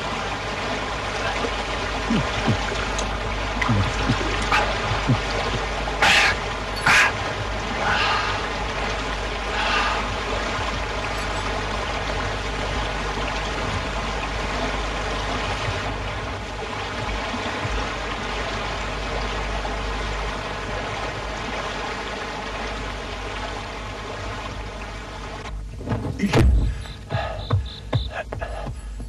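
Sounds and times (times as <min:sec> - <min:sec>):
low hum: 0:00.0 - 0:29.0
mountain stream flowing: 0:00.0 - 0:29.0.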